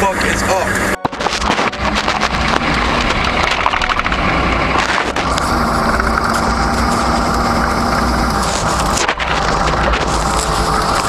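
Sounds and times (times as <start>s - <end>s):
steady hum: 0.0s - 11.0s
vehicle engine and road noise: 0.0s - 11.0s
rattles and clicks: 0.2s - 11.0s.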